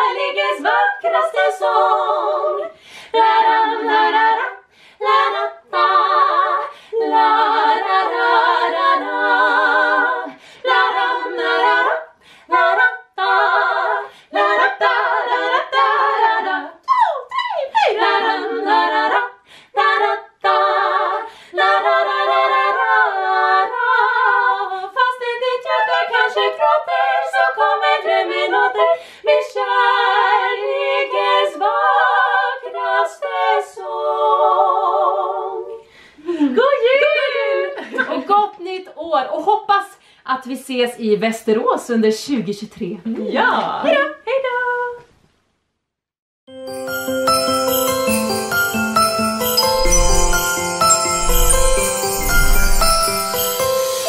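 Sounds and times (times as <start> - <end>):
women singing in harmony: 0.0 - 40.0, 43.2 - 45.1, 46.8 - 54.0.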